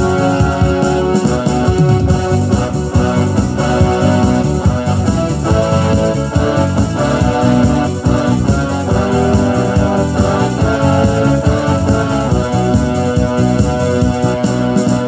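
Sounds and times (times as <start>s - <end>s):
moving bass line: 0.0s - 15.0s
organ-like keyboard chords: 0.0s - 15.0s.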